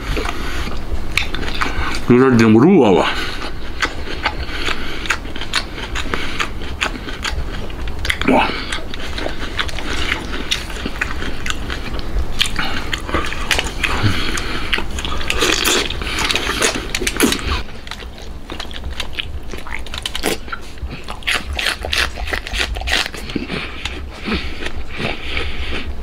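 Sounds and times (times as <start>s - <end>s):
chewing with wet smacks: 0.0s - 26.0s.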